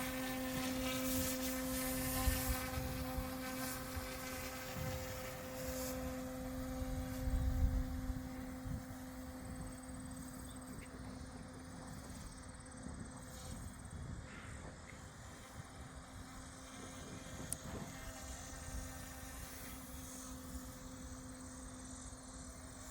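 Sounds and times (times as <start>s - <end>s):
wind rumble on microphone: 0.0s - 19.7s
rc helicopter buzzing: 0.0s - 22.9s.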